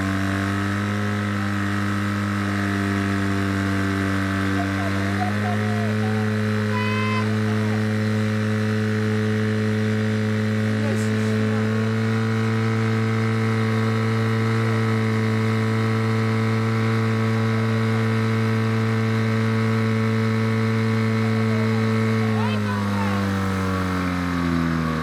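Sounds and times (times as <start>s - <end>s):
pump engine running: 0.0s - 25.0s.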